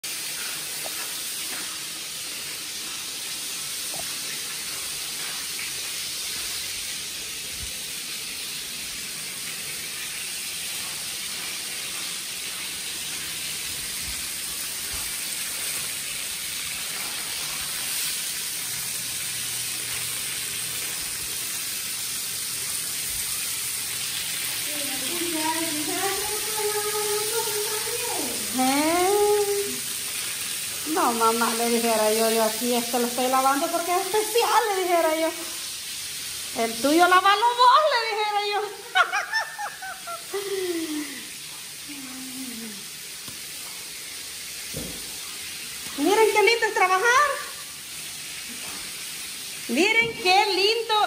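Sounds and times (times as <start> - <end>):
water jet spraying on concrete: 0.0 - 51.0.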